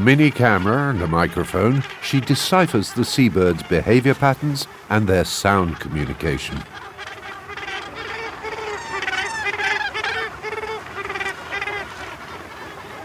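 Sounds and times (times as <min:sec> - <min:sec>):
gannets honking calls: 0:00.0 - 0:13.0.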